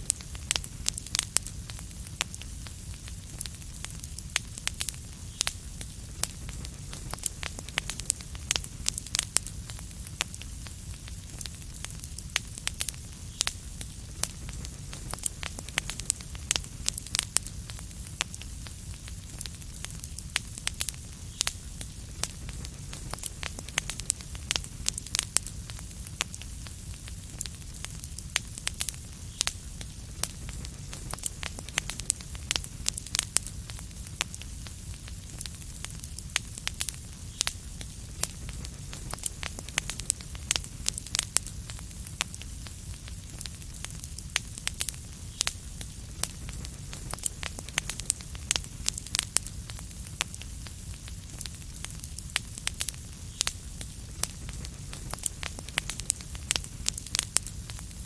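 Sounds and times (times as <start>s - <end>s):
low rumble and hiss of fire: 0.0s - 58.0s
wood fire crackling: 0.0s - 58.0s.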